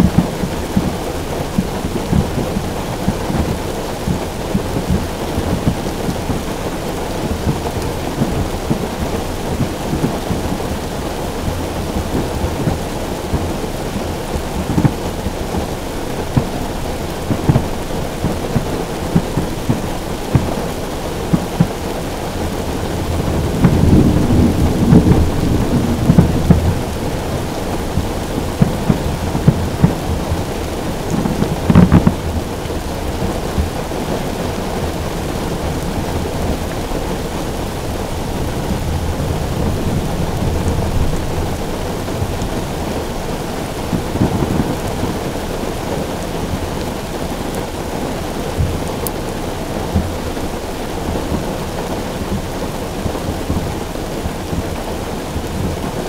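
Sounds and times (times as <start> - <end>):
heavy rain on a car roof: 0.0 - 56.0
thunder rolling: 0.0 - 56.0.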